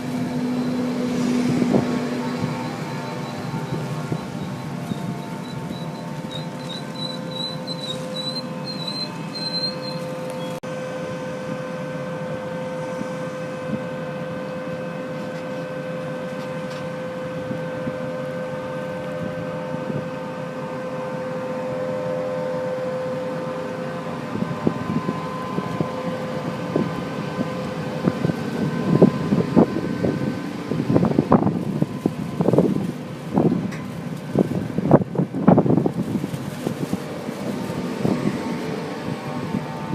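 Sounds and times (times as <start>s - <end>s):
wind buffeting microphone: 0.0s - 10.6s, 15.8s - 39.9s
train droning: 0.0s - 39.9s.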